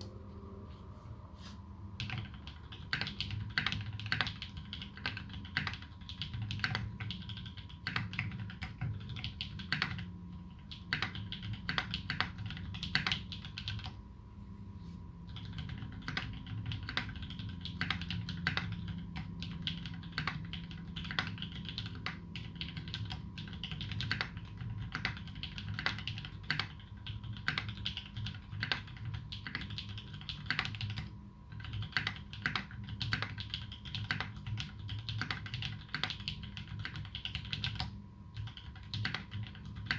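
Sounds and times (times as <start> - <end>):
typing on mechanical keyboard: 2.0 - 14.0, 15.3 - 39.9.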